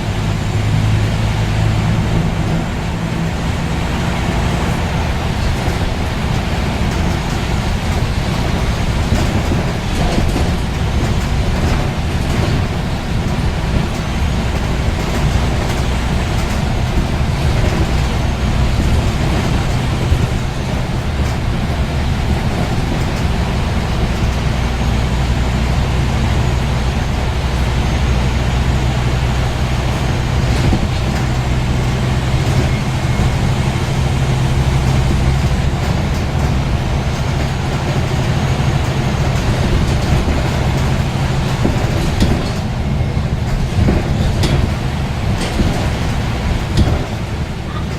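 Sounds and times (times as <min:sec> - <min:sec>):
bus diesel engine droning: 0:00.0 - 0:47.9.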